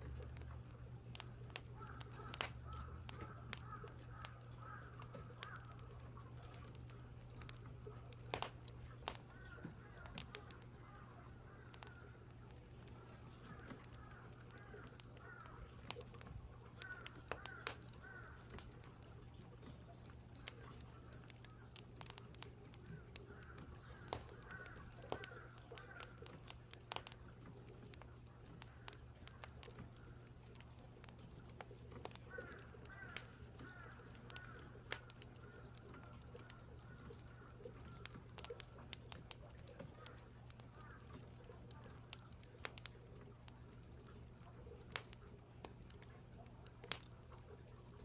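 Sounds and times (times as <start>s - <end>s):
faint crows cawing: 0.0s - 48.0s
firewood crackling: 0.0s - 48.0s
steady low hum: 0.0s - 48.0s.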